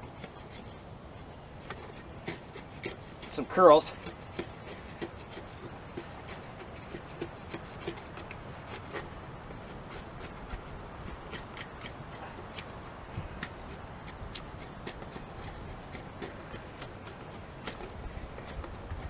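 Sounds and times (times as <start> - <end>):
knife scraping wood: 0.0 - 19.0.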